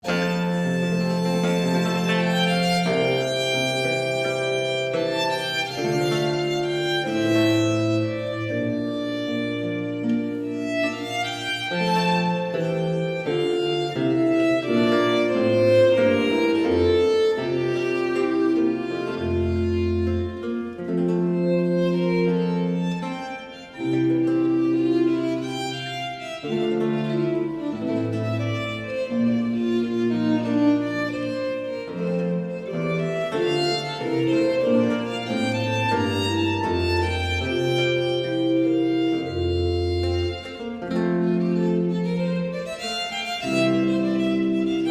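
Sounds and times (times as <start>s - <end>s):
light piano part: 0.0s - 44.9s
slow bowed strings music: 0.0s - 44.9s
violin melody: 0.0s - 44.9s
low cello bass line: 0.1s - 44.9s.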